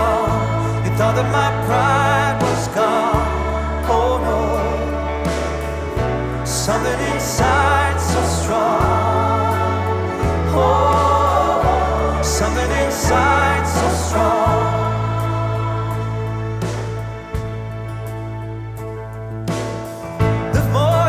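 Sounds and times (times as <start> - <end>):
person singing: 0.0 - 17.4
held bass notes: 0.0 - 21.0.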